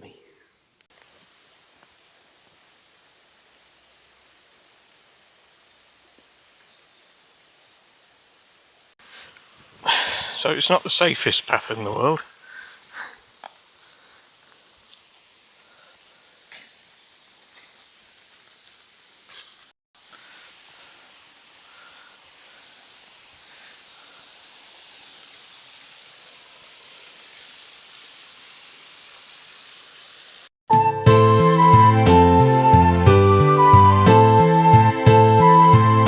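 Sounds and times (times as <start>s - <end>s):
running water hiss: 0.8s - 30.5s.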